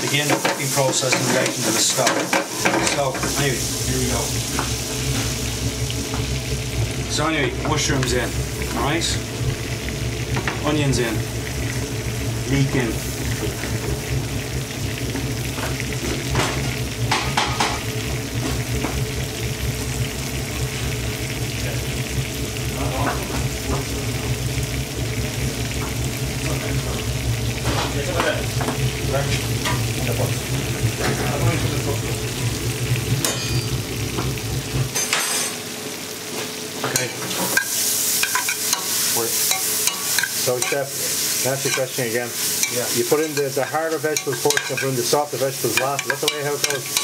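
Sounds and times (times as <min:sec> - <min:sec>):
low kitchen hum: 0:00.0 - 0:47.0
vegetables sizzling in butter: 0:00.0 - 0:47.0.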